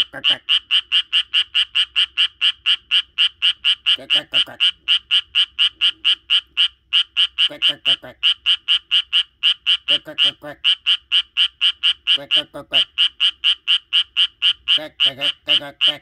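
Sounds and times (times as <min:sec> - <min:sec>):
lower-pitched croaking: 0:00.0 - 0:16.0
tree frog croaking: 0:00.0 - 0:16.0.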